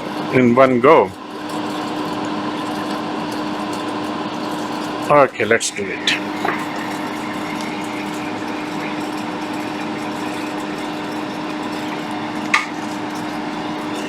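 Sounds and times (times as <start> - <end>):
hot air station blowing: 0.0 - 14.0.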